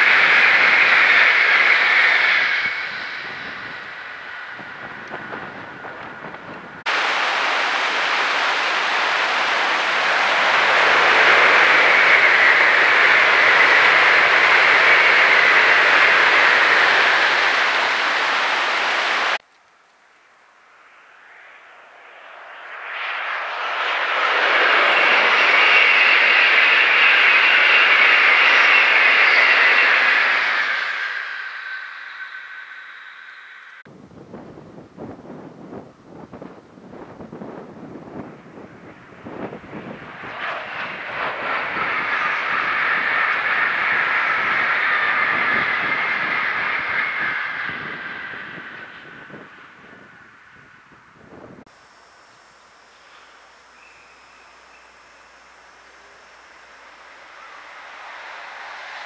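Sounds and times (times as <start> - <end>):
train crossing steel bridge: 0.0 - 19.4, 20.8 - 59.0.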